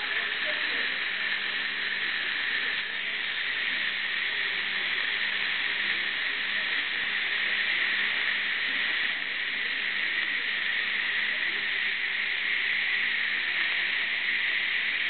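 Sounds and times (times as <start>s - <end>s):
dental equipment hissing: 0.0s - 15.0s.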